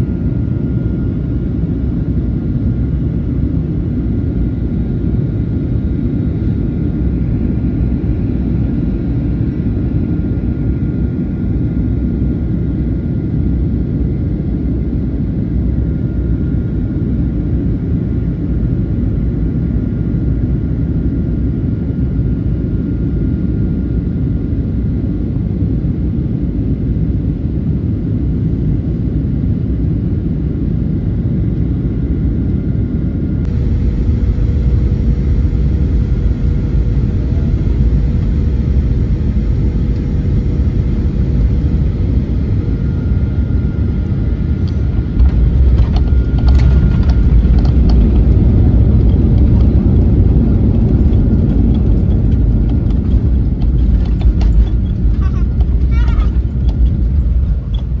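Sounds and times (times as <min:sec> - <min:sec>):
airliner engine and airflow rumble: 0:00.0 - 0:58.0.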